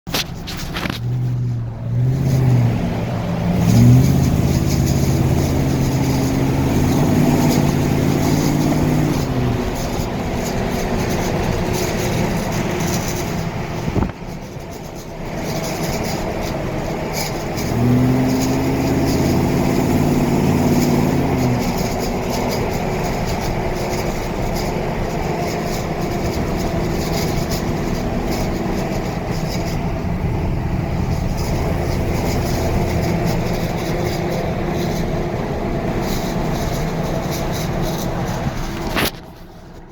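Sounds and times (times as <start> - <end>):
road noise: 0.0 - 39.9
car engine revving: 0.1 - 39.9
ticking rattle: 0.1 - 39.9.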